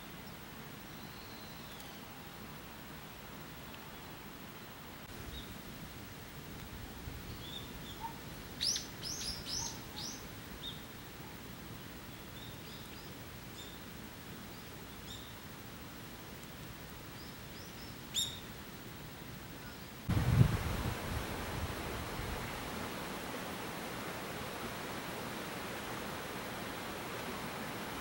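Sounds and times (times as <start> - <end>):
steady faint hiss: 0.0 - 28.0.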